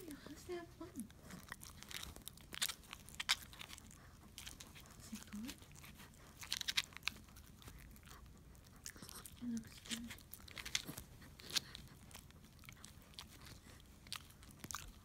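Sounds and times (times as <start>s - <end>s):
dog gnawing a bone: 0.0s - 15.0s.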